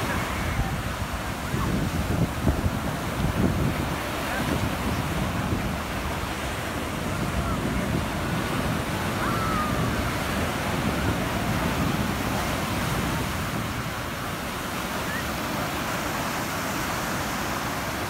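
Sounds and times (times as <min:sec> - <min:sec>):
ocean surf breaking on shore: 0:00.0 - 0:18.0.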